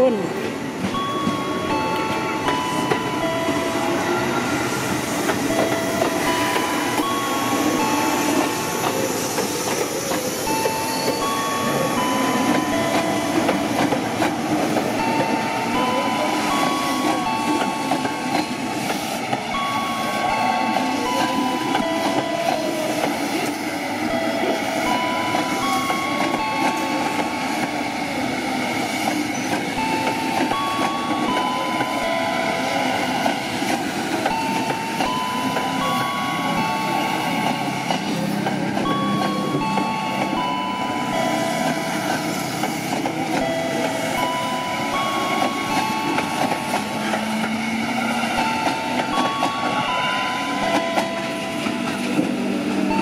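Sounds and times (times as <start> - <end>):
electric train rolling: 0.0 - 53.0.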